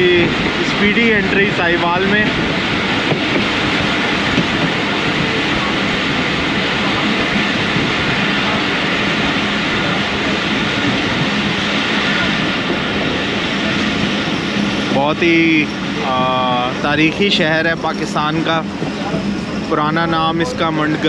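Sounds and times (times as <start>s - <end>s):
train wheels on rail: 0.0s - 21.0s.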